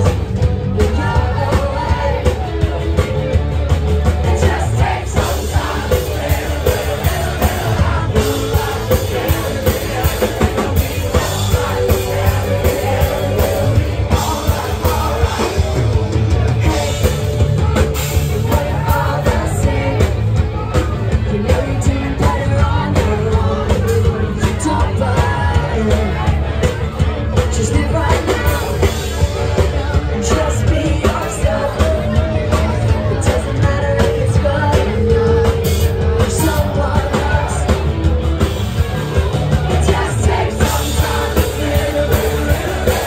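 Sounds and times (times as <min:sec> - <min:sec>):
drums: 0:00.0 - 0:43.0
electric guitar: 0:00.0 - 0:43.0.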